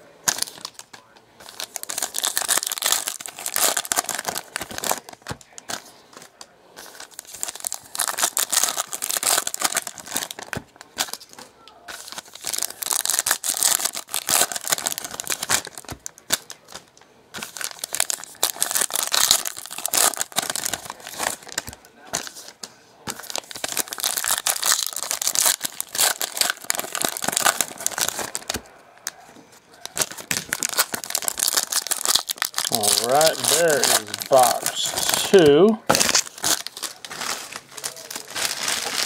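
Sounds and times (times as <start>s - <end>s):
foil wrappers crinkling and tearing: 0.0s - 39.0s.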